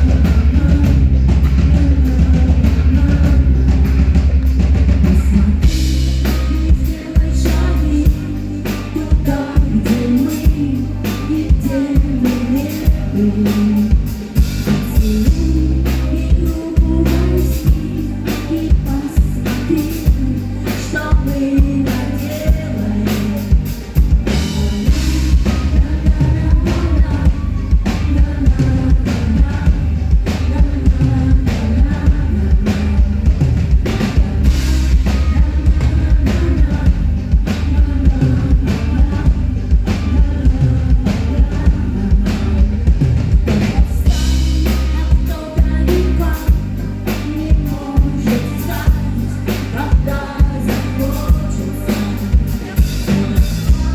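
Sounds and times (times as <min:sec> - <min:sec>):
bass: 0:00.0 - 0:53.9
drum kit beat: 0:00.0 - 0:53.9
guitar: 0:00.0 - 0:53.9
person singing: 0:00.0 - 0:53.9.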